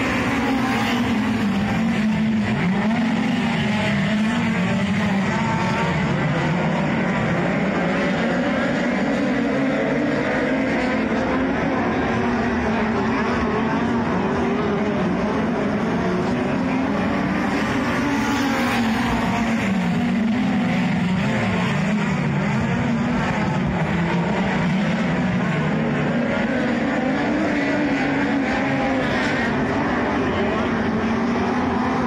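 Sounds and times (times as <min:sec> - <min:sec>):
race car engines: 0:00.0 - 0:32.0.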